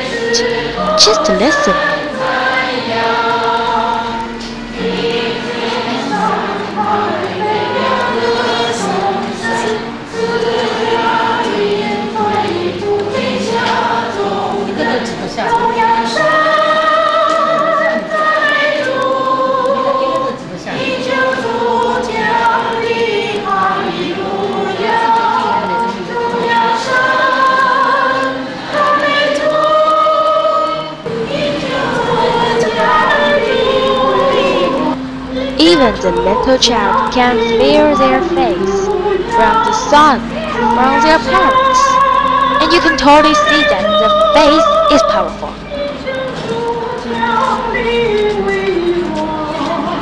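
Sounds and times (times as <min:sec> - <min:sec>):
choir singing a hymn: 0:00.0 - 0:50.0.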